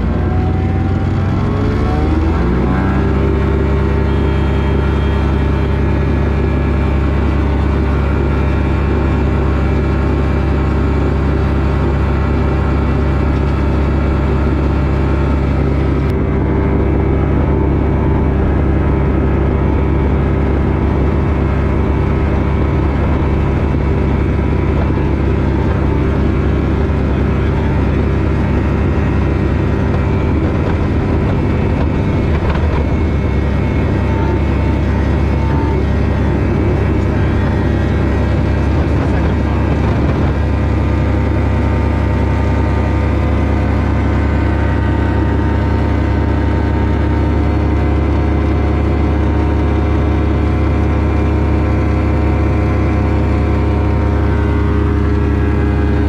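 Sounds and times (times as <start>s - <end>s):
aircraft rolling on dirt strip: 0.0s - 56.0s
propeller aircraft engine drone: 0.0s - 56.0s.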